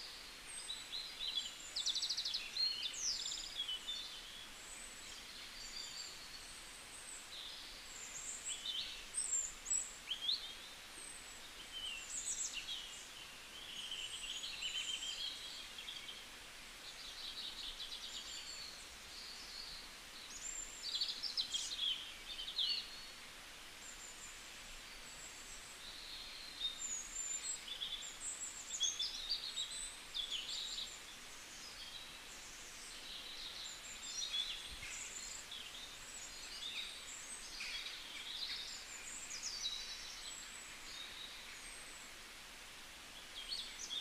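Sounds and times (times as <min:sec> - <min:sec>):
small birds chirping: 0:00.0 - 0:44.0
steady background hiss: 0:00.0 - 0:44.0.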